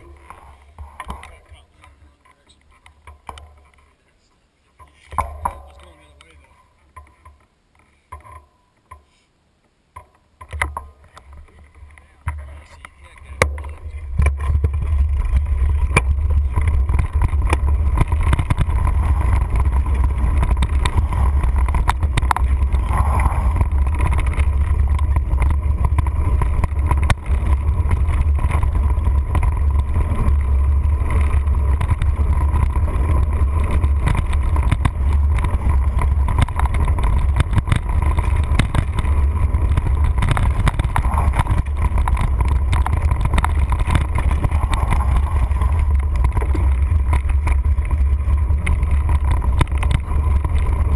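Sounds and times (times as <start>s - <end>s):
bike rumbling over dirt trail: 0.0s - 4.1s, 4.8s - 8.9s, 10.0s - 50.9s
bike and camera mount rattling: 10.0s - 50.9s.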